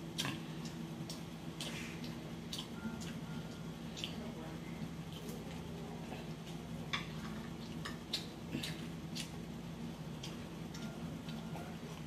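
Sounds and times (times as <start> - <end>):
person chewing food: 0.0 - 4.3, 5.0 - 12.0
low steady hum: 0.0 - 12.0.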